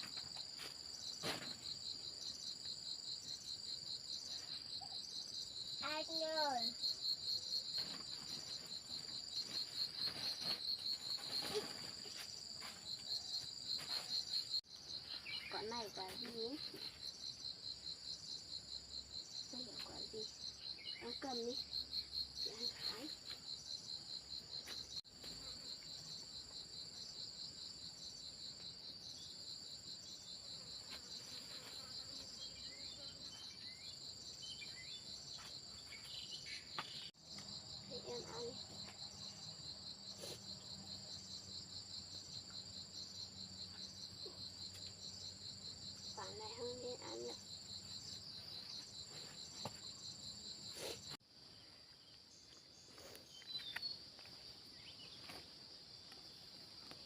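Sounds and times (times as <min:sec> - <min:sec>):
crickets chirping: 0:00.0 - 0:57.0
slower pulsing insect call: 0:00.0 - 0:57.0.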